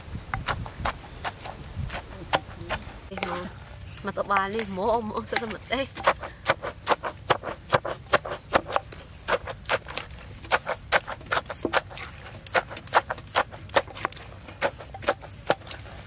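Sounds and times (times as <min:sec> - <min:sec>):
pestle pounding in mortar: 0:00.3 - 0:16.0.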